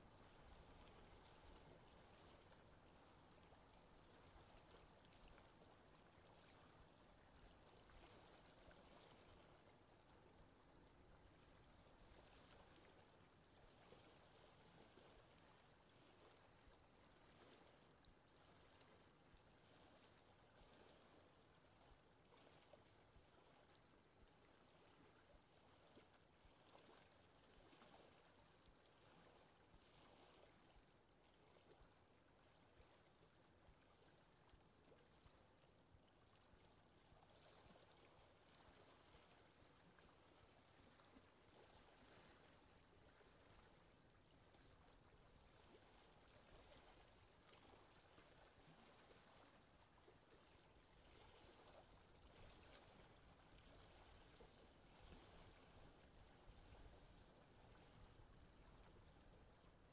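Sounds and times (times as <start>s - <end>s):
lake water lapping: 0.0s - 59.9s.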